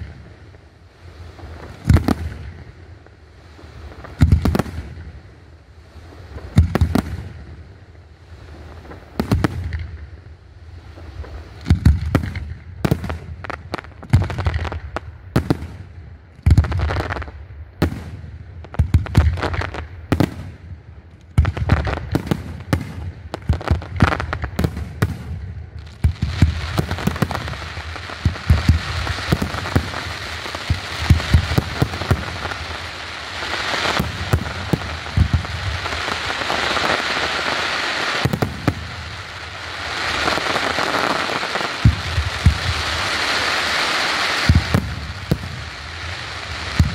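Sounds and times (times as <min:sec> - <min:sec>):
fireworks bursting with loud bangs: 0:00.0 - 0:46.9
fireworks crackling: 0:00.0 - 0:46.9.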